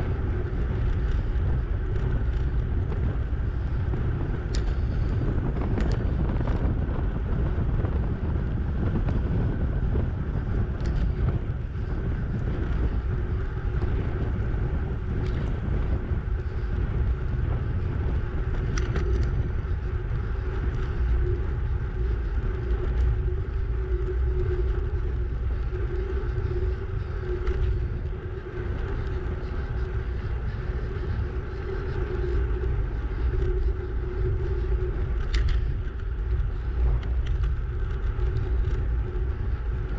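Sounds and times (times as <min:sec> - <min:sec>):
faint steady hum: 0:00.0 - 0:39.9
wind buffeting microphone: 0:00.0 - 0:39.9.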